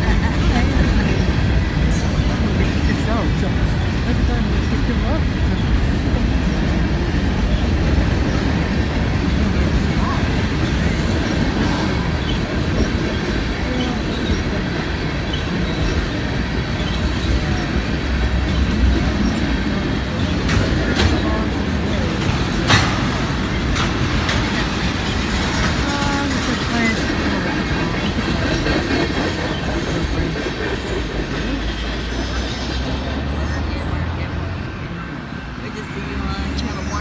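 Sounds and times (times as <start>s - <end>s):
freight train rolling past: 0.0s - 37.0s.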